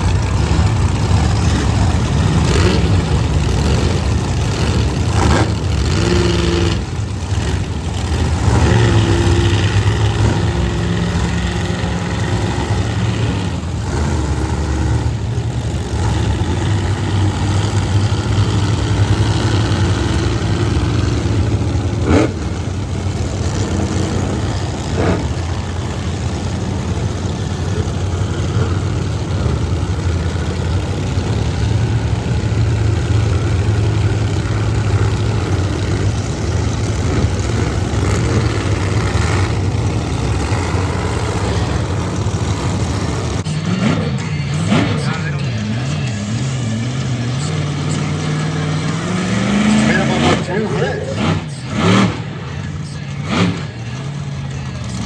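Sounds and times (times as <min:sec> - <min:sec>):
monster truck engines revving: 0:00.0 - 0:55.0.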